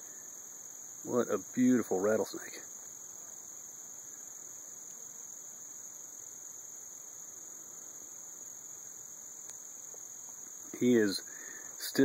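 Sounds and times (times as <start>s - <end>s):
crickets chirping drone: 0.0s - 12.0s.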